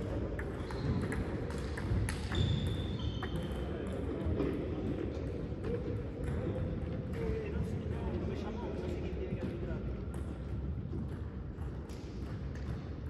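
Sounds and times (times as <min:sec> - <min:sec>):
murmur of sports hall: 0:00.0 - 0:13.0.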